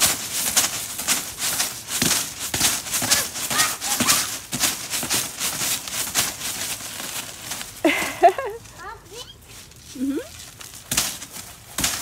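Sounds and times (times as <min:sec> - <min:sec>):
footsteps crunching on ice: 0:00.0 - 0:12.0.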